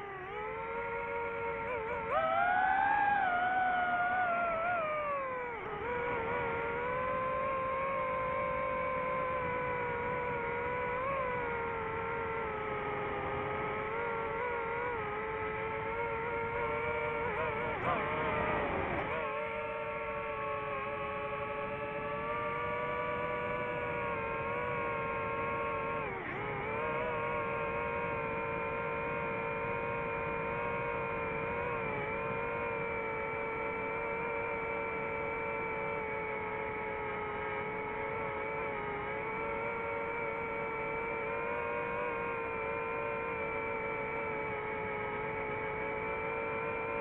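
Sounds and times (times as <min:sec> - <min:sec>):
drone motors whining: 0:00.0 - 0:47.0.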